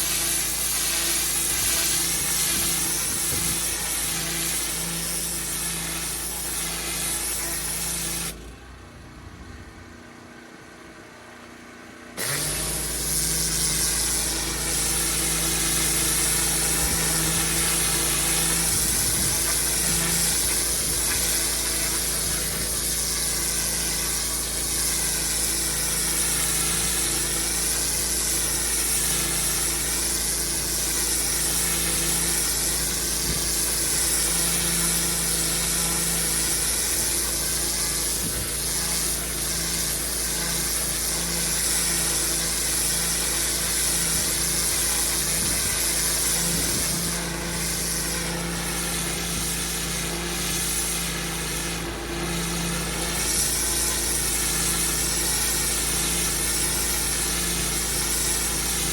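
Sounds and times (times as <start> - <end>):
high-pressure water jet hissing: 0.0 - 8.5, 12.2 - 58.9
pressure washer engine running: 0.0 - 58.9.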